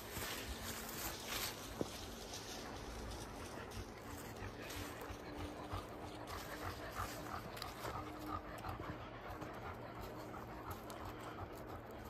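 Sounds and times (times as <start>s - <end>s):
footsteps on a dirt trail: 0.0s - 12.0s
dog panting: 2.2s - 12.0s.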